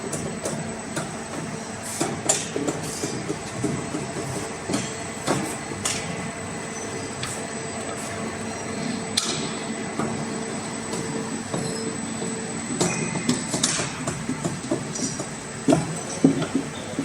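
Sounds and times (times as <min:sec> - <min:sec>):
bending machine motor hum: 0:02.5 - 0:17.0.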